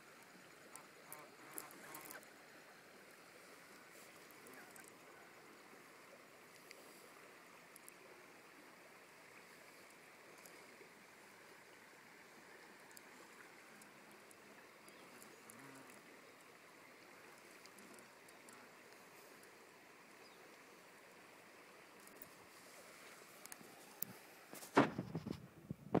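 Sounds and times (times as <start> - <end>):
faint flowing river water: 0.0 - 26.0
light high ticks: 0.1 - 8.1, 9.3 - 11.8, 12.4 - 20.7, 21.9 - 24.3.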